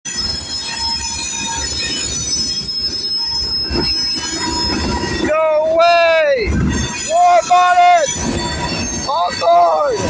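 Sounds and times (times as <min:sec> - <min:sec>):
train rolling rumble: 0:00.1 - 0:10.0
train wheels squealing: 0:00.1 - 0:10.0.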